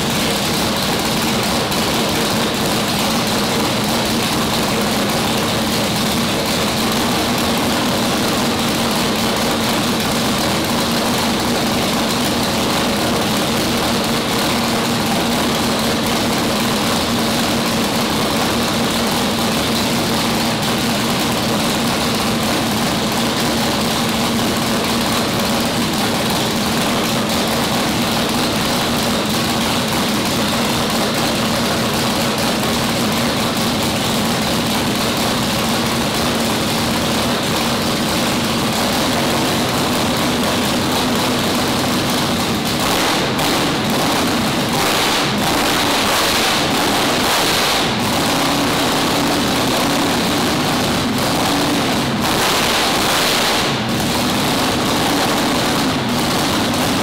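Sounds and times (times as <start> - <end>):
drag-race engine idling: 0.0 - 57.0.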